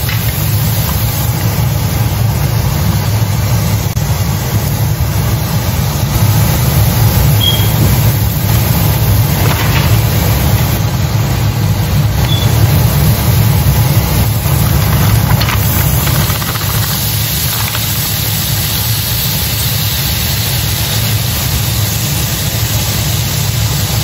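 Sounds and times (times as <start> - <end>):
hiss: 0.0 - 24.0
low mechanical rumble: 0.0 - 24.0.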